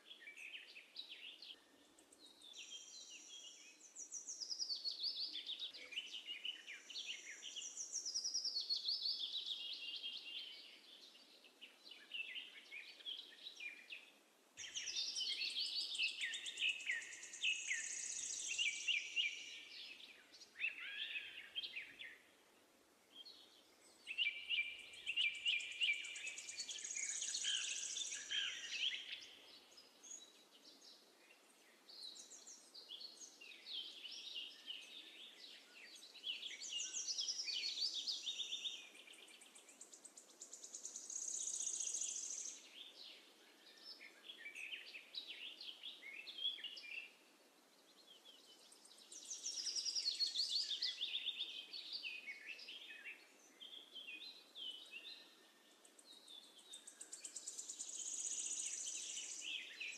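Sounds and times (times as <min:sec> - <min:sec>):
birds chirping and singing: 0:00.1 - 0:22.3, 0:23.2 - 0:31.0, 0:31.9 - 0:47.2, 0:47.9 - 0:59.9.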